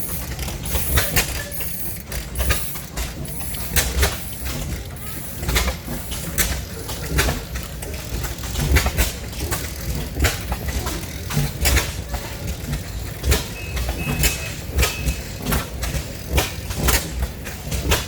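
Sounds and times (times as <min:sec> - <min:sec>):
old engines running unevenly: 0:00.0 - 0:18.0.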